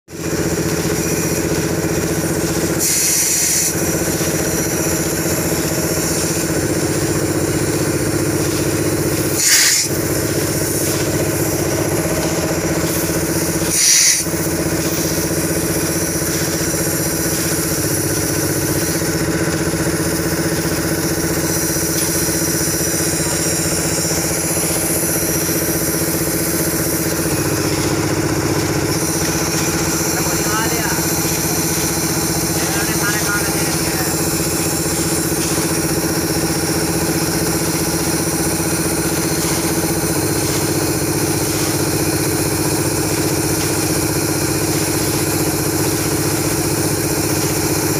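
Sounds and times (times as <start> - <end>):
air compressor running: 0.0 - 47.9
air and water blasting from pipe: 0.1 - 47.9.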